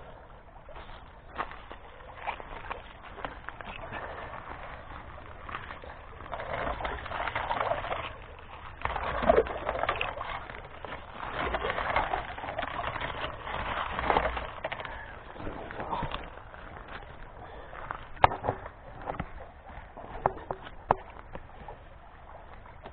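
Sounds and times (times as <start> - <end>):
water swishing: 0.0 - 22.9
pebbles scraping: 0.6 - 22.9.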